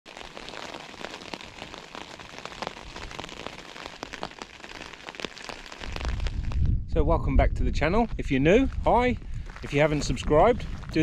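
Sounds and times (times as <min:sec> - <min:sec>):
rain pattering on tent: 0:00.0 - 0:06.8, 0:08.1 - 0:11.0.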